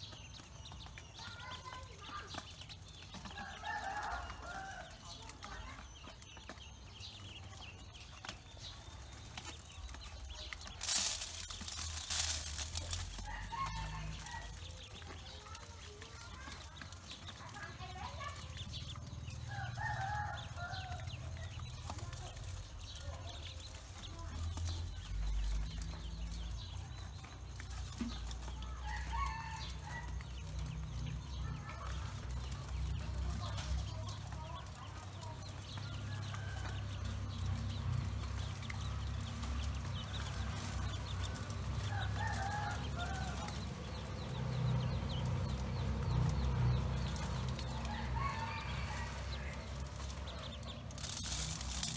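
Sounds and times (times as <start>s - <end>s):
ducklings peeping: 0.0s - 51.9s
pecking at seed in metal bowl: 0.0s - 51.9s.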